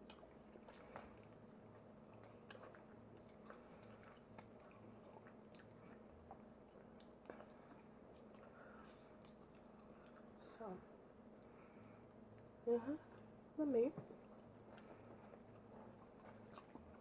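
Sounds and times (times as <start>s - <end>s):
chewing and eating: 0.0s - 17.0s
low steady hum: 0.0s - 17.0s.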